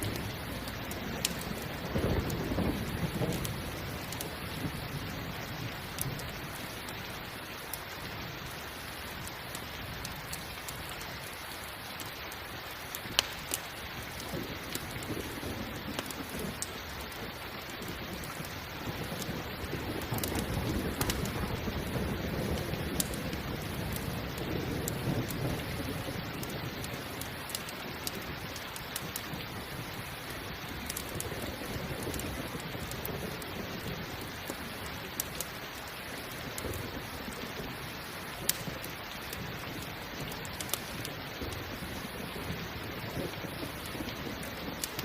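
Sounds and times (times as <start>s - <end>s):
low thunder rumble: 0.0s - 7.2s, 14.0s - 44.9s
campfire crackling: 0.0s - 45.0s
steady rain: 0.0s - 45.0s.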